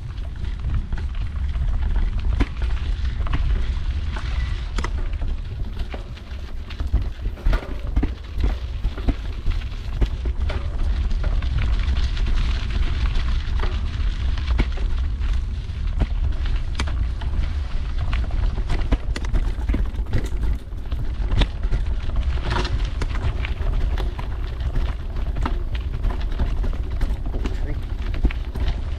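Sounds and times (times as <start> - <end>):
bike knocks and rattles: 0.0 - 28.9
bike tyre noise on dirt: 0.0 - 28.9
wind rumbling on microphone: 0.0 - 28.9.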